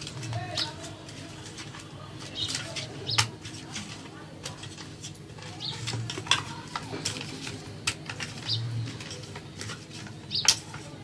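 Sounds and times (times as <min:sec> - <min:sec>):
utensils clinking on dishes: 0:00.0 - 0:11.0.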